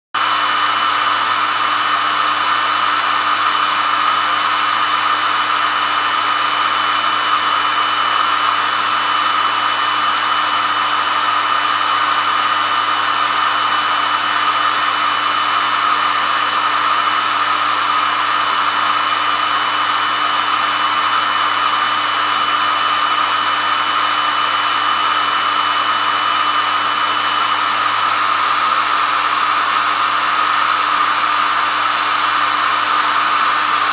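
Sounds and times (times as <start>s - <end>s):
hair dryer running: 0.2s - 33.9s.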